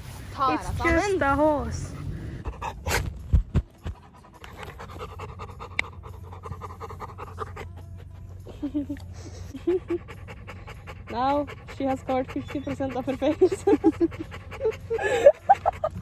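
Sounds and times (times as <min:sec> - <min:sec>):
dog panting rapidly: 0:00.8 - 0:16.0.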